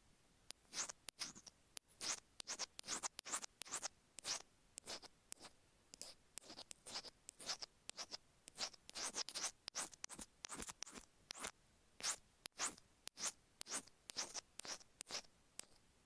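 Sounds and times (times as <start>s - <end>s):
metal pick scratching plastic: 0.7s - 15.8s.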